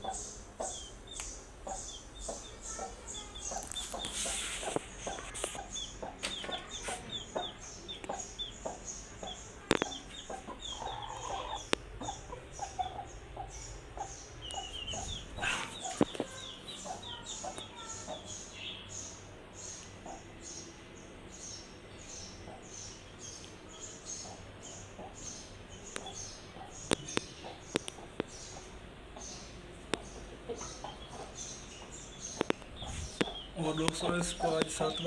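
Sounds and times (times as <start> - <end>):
hen clucking: 0.0 - 18.4, 24.2 - 35.0.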